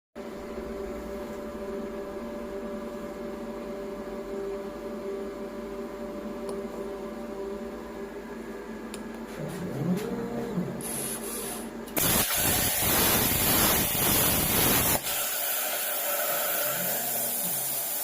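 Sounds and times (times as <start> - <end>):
machine humming with fixed tones: 0.2 - 18.0.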